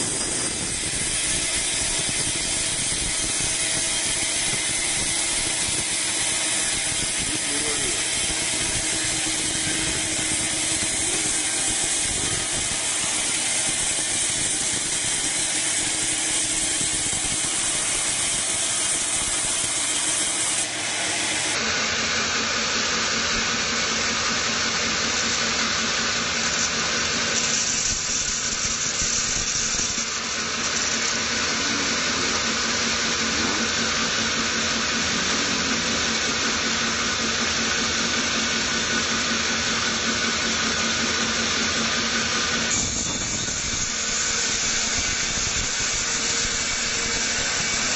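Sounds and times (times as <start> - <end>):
band saw cutting wood: 0.0 - 47.9.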